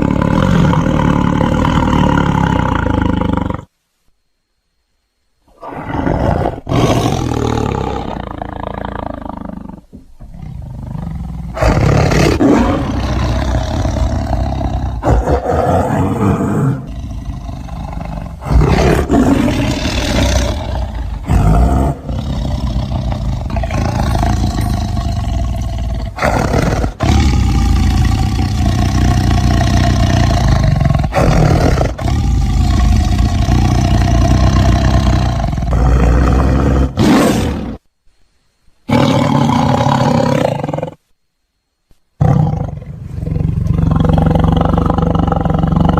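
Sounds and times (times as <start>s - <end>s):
tiger roaring: 0.0s - 3.7s, 5.5s - 37.8s, 38.9s - 41.0s, 42.2s - 45.9s.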